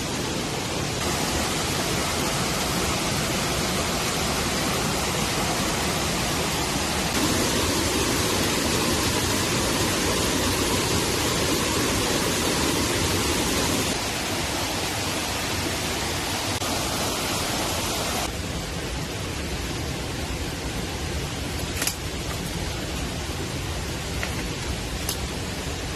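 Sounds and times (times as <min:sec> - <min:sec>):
water rushing: 0:00.0 - 0:25.9.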